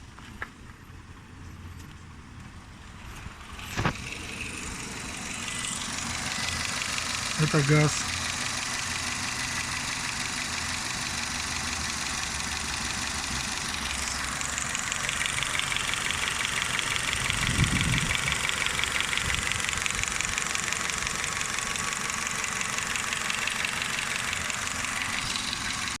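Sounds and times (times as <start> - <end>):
car engine running rough: 2.8 - 26.0
rapid engine ticking knock: 3.8 - 26.0.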